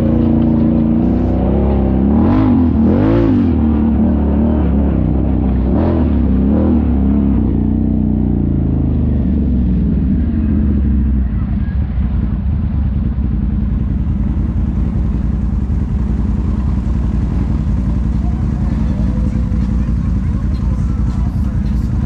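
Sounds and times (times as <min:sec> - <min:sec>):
atv engine: 0:00.0 - 0:22.0.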